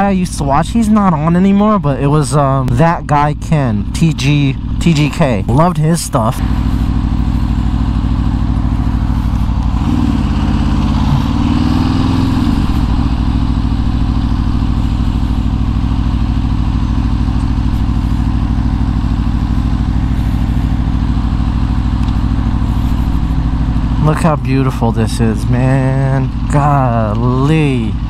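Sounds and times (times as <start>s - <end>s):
motorcycle engine at low revs: 0.0s - 28.0s.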